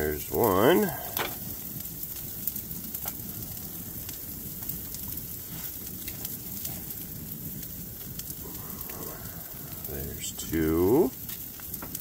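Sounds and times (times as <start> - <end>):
light crackles: 0.0 - 12.0.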